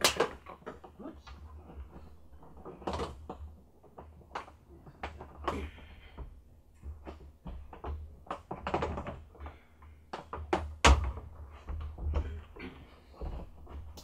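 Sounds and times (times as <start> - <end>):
plastic parts clicking and knocking: 0.0 - 14.0.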